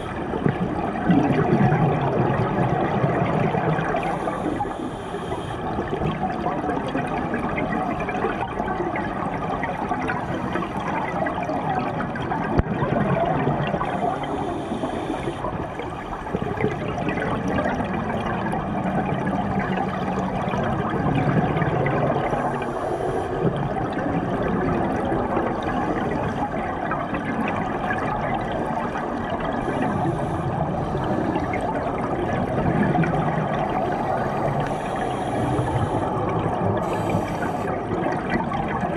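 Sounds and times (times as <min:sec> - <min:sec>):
underwater exhaust bubbles: 0:00.0 - 0:38.9.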